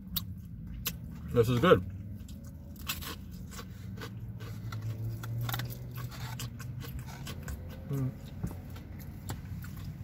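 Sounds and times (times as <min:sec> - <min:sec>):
low steady hum: 0:00.0 - 0:10.0
person chewing crunchy food: 0:00.0 - 0:10.0.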